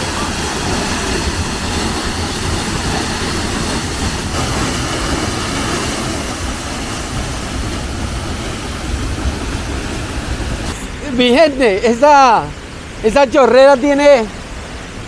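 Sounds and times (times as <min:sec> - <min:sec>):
waterfall pounding: 0:00.0 - 0:15.0.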